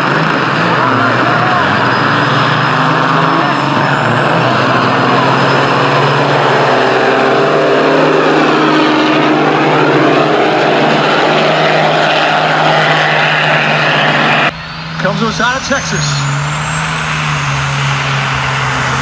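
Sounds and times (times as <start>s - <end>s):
truck diesel engines at full throttle: 0.0s - 19.0s.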